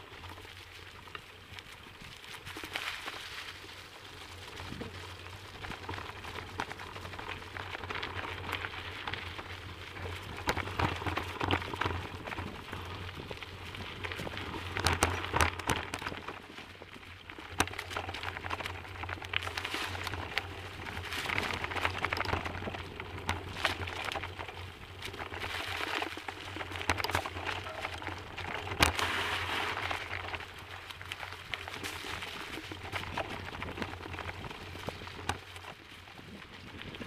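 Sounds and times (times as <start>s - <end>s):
bicycle tyres crunching on leaves: 0.0s - 37.0s
bike knocking and rattling on bumps: 0.0s - 37.0s.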